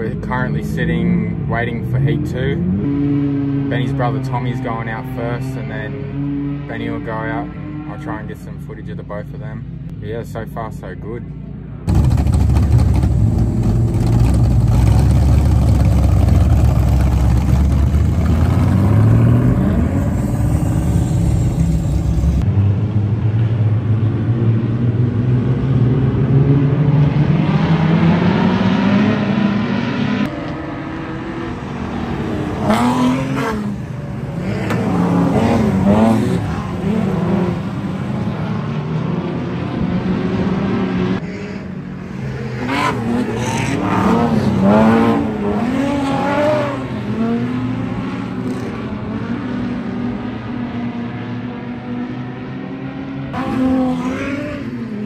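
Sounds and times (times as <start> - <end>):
stock car engines racing: 0.0 - 55.0.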